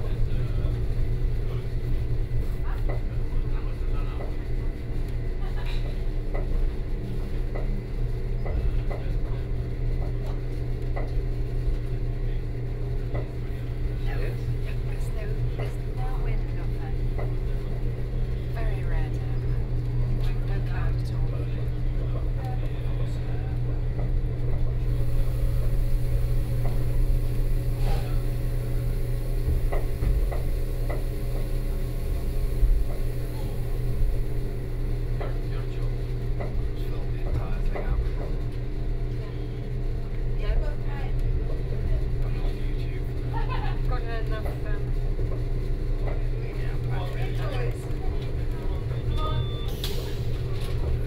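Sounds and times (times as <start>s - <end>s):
railcar low hum: 0.0s - 51.0s.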